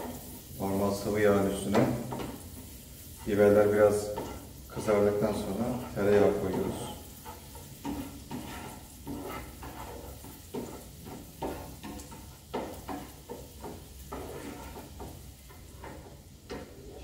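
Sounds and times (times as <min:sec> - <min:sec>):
peppers sizzling in a pan: 0:00.0 - 0:17.0
utensil scraping a pan: 0:00.0 - 0:17.0.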